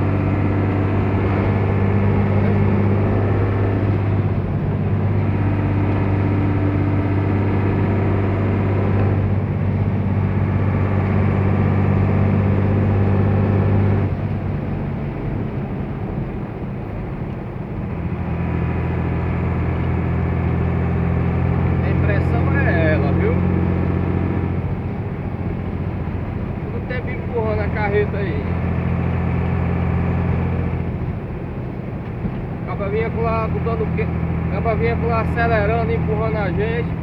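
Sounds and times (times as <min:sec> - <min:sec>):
truck diesel engine running hard: 0:00.0 - 0:37.0.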